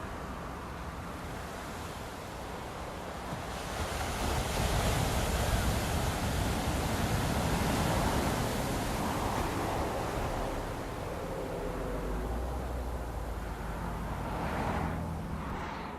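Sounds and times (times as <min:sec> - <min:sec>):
road traffic: 0:00.0 - 0:04.3, 0:04.9 - 0:15.9
ocean surf: 0:00.0 - 0:15.9.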